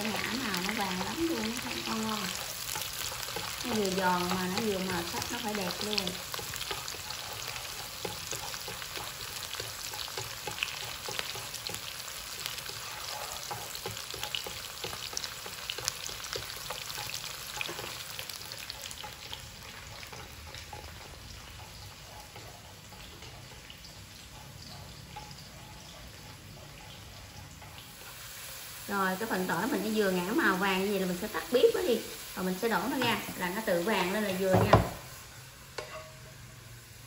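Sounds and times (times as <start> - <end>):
garlic sizzling in hot oil: 0.0 - 37.0.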